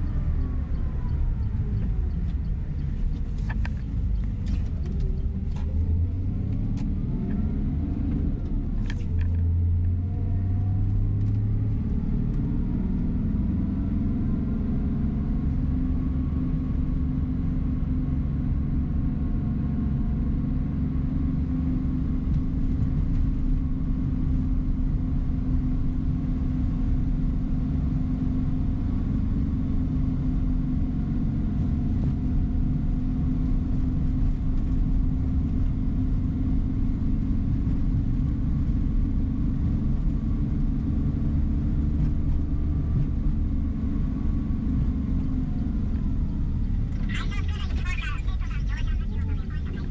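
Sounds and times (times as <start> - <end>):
bus engine and road hum: 0.0 - 49.9.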